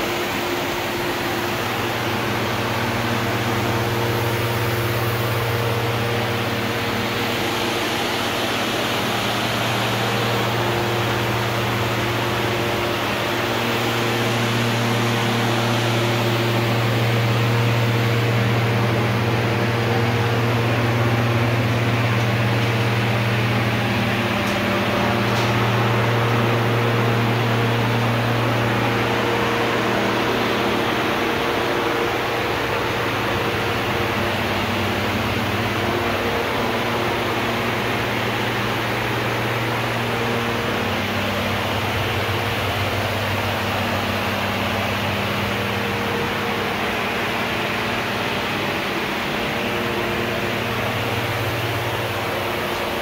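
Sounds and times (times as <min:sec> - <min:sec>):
ventilation fans running: 0:00.0 - 0:53.0.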